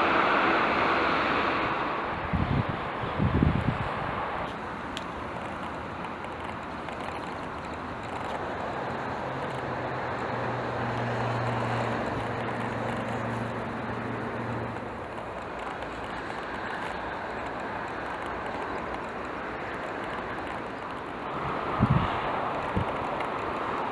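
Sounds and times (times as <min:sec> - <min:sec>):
car road and wind noise: 0:00.0 - 0:23.9
low engine drone: 0:04.2 - 0:23.9.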